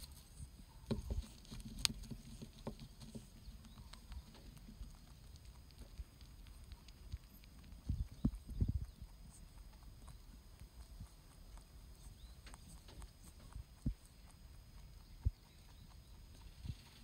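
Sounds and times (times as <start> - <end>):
rabbit chewing crunching: 0.0 - 17.0.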